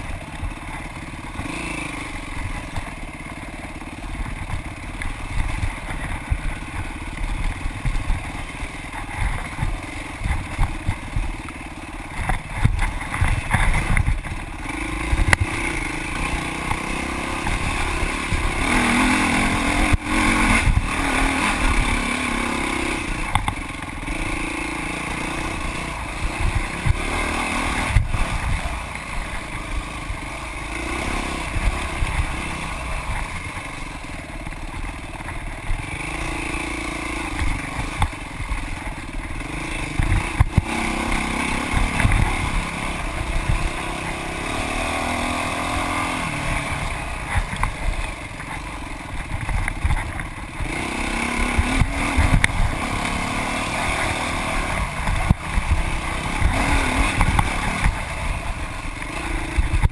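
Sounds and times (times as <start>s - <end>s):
bike knocking and rattling: 0.0s - 59.9s
dirt bike engine revving: 0.0s - 59.9s.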